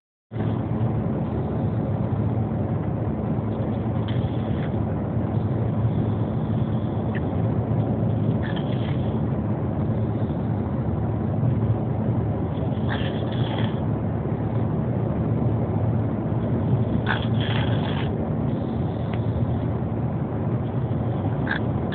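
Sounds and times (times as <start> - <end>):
car engine and road noise: 0.3 - 21.9.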